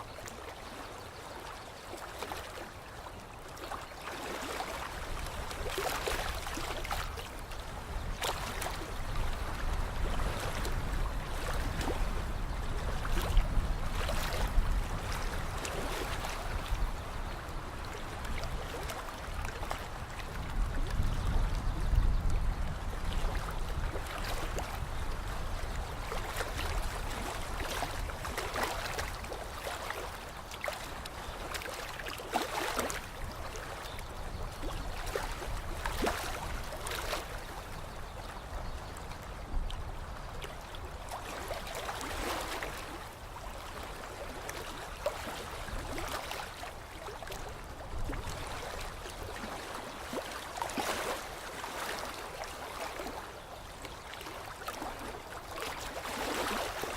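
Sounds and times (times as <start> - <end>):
lake water lapping: 0.0 - 56.9.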